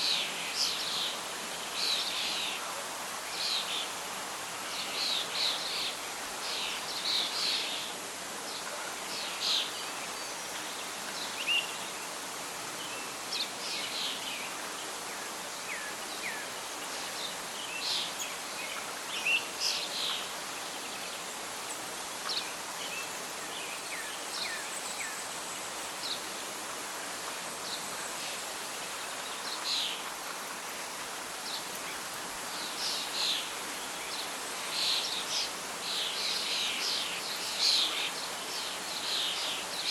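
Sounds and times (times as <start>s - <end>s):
rustling leaves: 0.0s - 39.9s
wind: 0.0s - 39.9s.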